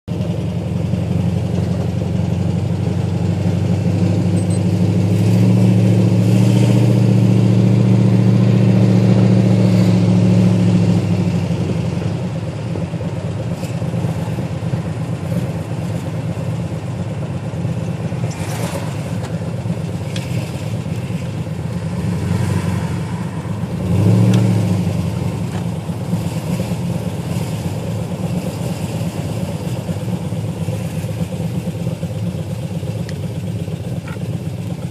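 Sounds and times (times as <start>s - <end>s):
car engine idling: 0.1s - 34.9s
engine ticking: 0.1s - 34.9s.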